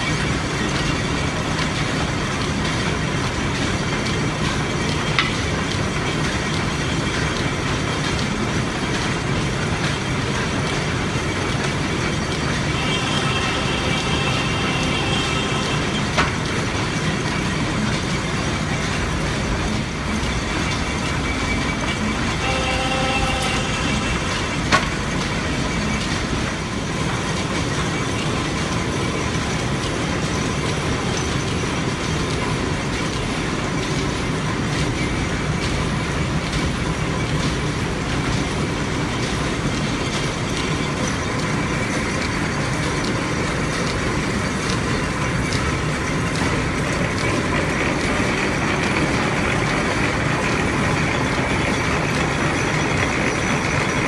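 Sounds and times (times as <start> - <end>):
belt-driven machinery running: 0.0 - 54.0.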